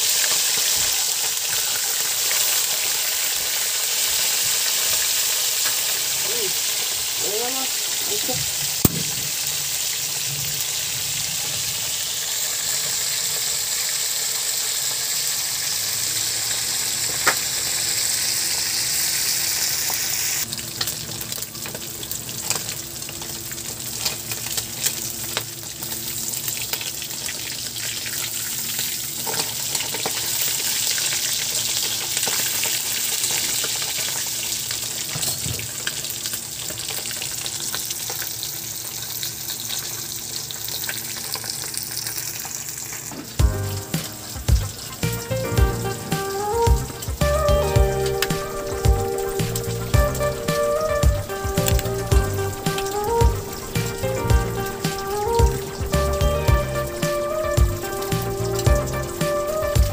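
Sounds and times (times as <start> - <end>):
fish sizzling in hot oil: 0.0 - 59.9.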